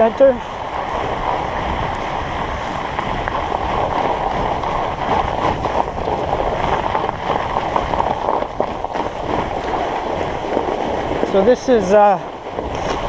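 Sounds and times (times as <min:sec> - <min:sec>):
studded tyres rolling on ice: 0:00.0 - 0:13.0.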